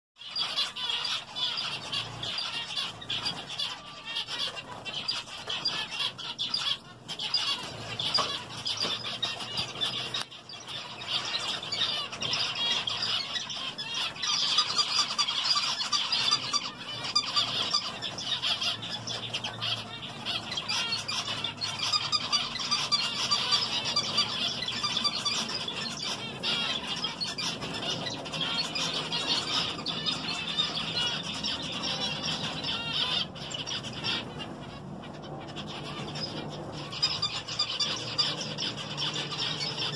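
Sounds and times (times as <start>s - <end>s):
finches chattering: 0.2s - 39.9s.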